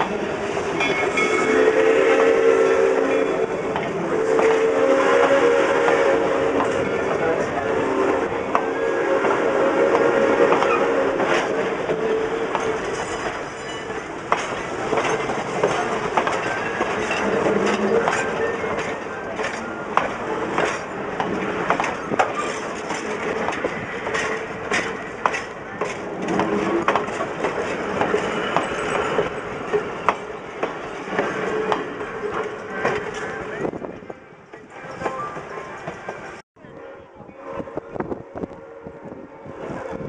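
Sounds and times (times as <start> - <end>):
train wheels rumbling on rail: 0.0 - 36.4.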